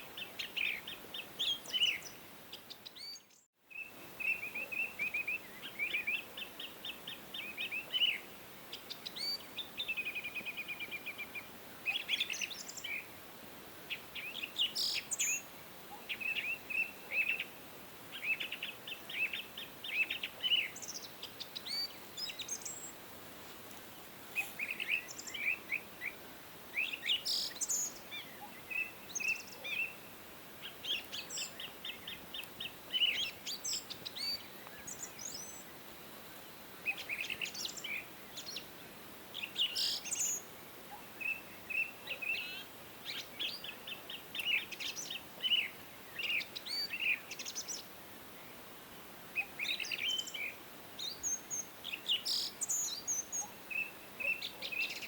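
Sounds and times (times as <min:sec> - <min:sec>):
songbirds chirping and trilling: 0:00.0 - 0:13.2, 0:13.8 - 0:23.0, 0:23.7 - 0:55.0
faint steady hiss: 0:00.0 - 0:55.0.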